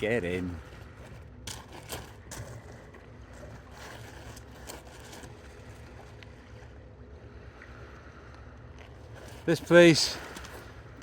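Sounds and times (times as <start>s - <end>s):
wind and sea rumble: 0.0s - 11.0s.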